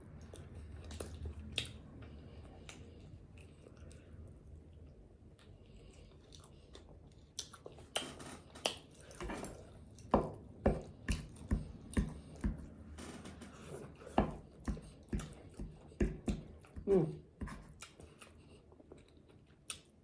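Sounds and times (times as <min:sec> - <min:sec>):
crunchy chewing of fried chicken: 0:00.0 - 0:12.9, 0:13.5 - 0:20.0.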